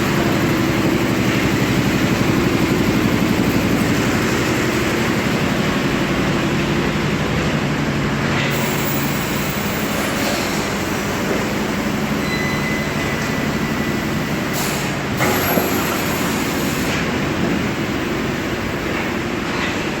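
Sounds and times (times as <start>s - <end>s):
factory machinery humming: 0.0s - 20.0s.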